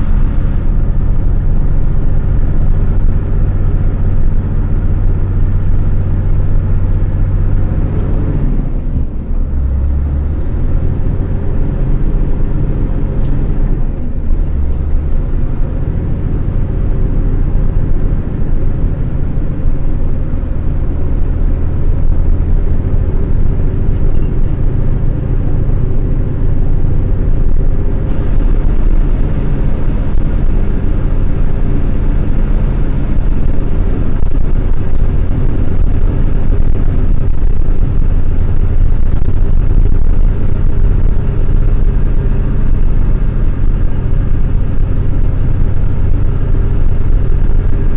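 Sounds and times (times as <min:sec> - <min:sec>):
truck diesel engine rumble: 0:00.0 - 0:47.9.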